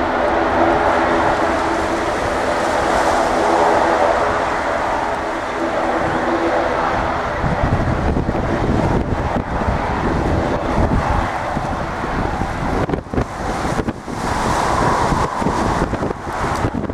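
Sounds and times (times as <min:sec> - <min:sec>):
jet engines at takeoff thrust: 0:00.0 - 0:16.9.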